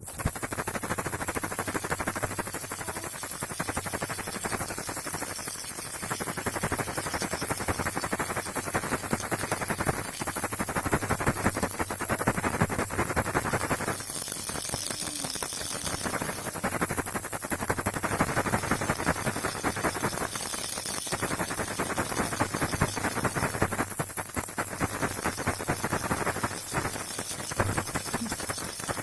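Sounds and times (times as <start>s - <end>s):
baby rattle shaking: 0.0s - 29.0s.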